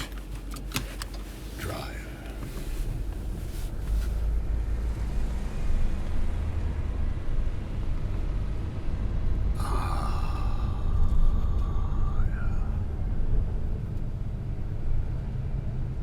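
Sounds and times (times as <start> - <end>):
car engine rumble: 0.0 - 16.0.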